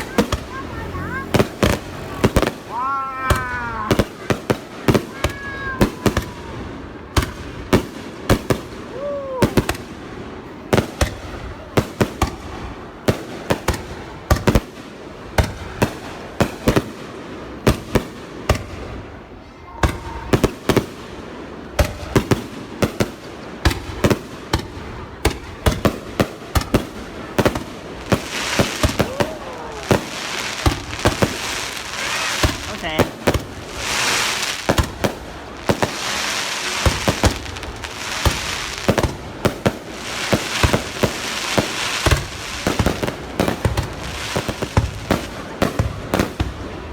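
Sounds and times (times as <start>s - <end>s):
dense fireworks crackling: 0.0s - 46.9s
fireworks bangs: 0.0s - 46.9s.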